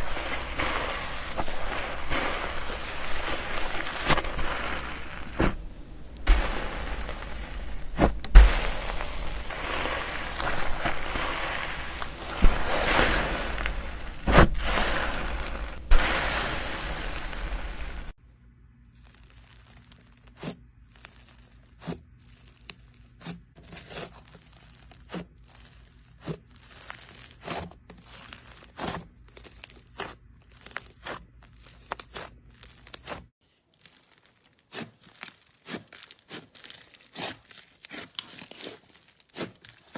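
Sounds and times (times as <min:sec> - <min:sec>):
slime crunchy crackling: 0:00.0 - 0:18.2, 0:18.8 - 0:39.9.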